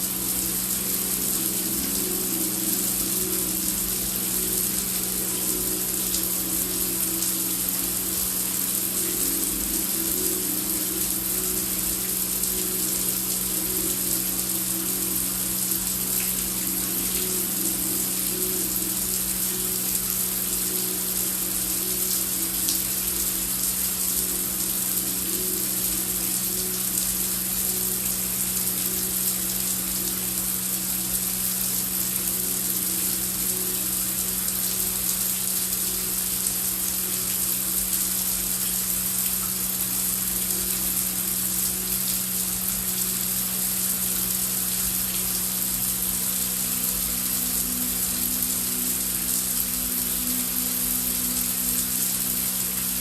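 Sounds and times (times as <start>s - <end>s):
heavy rain: 0.0s - 53.0s
low steady drone: 0.0s - 53.0s.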